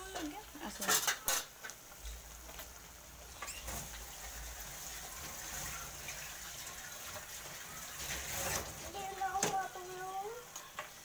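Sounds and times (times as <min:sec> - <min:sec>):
broth simmering in a pan: 0:00.0 - 0:11.0.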